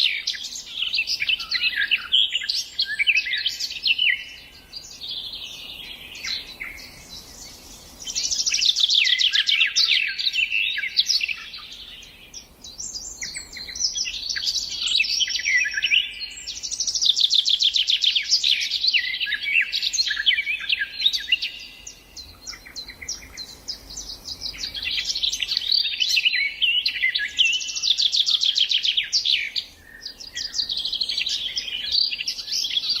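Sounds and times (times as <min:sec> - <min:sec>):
songbirds trilling and chirping: 0:00.0 - 0:33.0.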